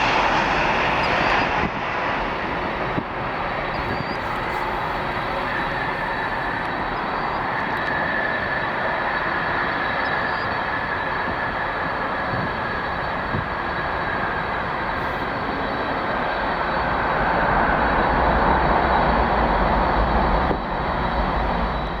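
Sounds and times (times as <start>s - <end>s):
jet engines rushing and whining: 0.0s - 22.0s.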